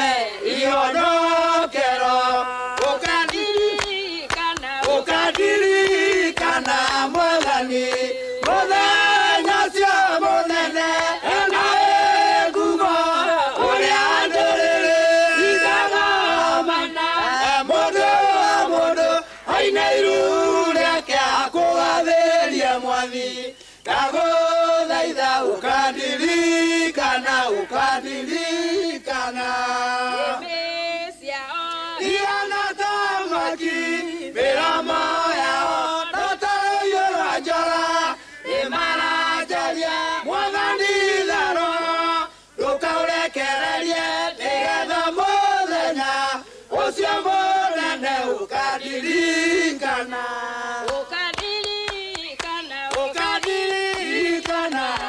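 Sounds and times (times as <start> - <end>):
choir singing gospel: 0.0 - 55.0.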